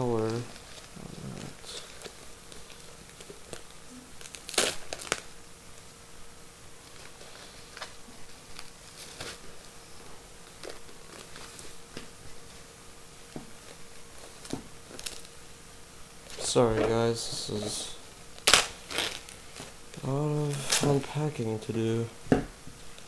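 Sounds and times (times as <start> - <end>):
plastic wrapping crinkling: 0.0 - 5.9, 6.8 - 12.6, 13.2 - 15.4, 16.2 - 21.3.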